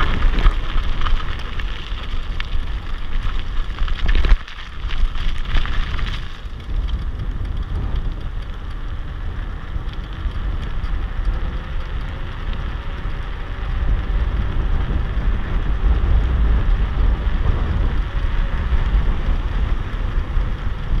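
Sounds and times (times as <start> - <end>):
tyre noise on asphalt: 0.0 - 21.0
wind buffeting microphone: 0.0 - 21.0.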